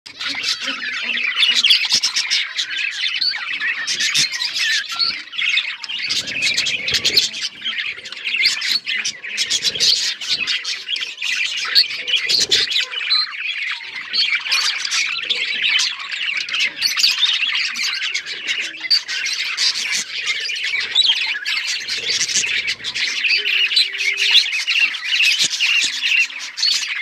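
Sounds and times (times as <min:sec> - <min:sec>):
budgerigars chattering: 0:00.1 - 0:27.0.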